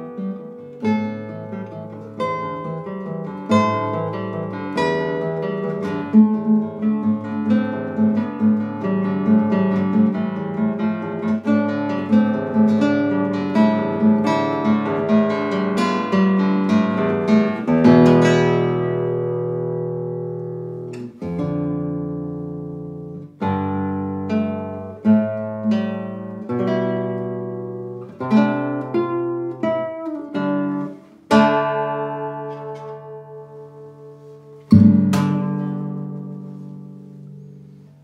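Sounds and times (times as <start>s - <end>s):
classical guitar fingerstyle: 0.0s - 38.0s.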